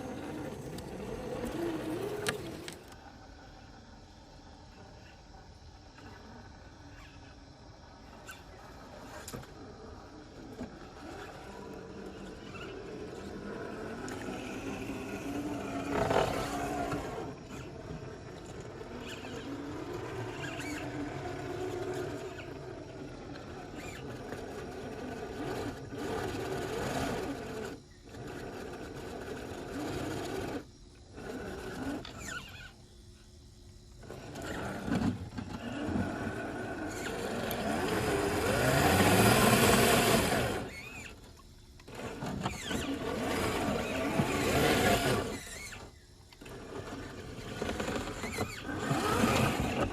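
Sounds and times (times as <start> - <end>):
toy car motor whining: 0.0 - 3.0, 8.2 - 32.9, 33.9 - 49.9.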